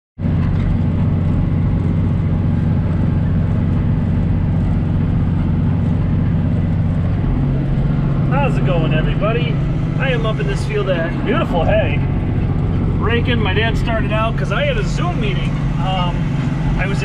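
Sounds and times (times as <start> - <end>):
tractor diesel engine running: 0.2 - 17.0.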